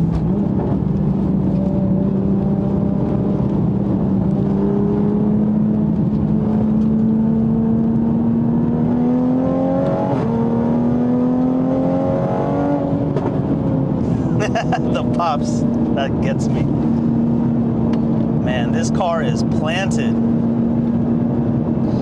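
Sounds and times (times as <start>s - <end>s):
turbocharged car engine accelerating: 0.0s - 22.0s.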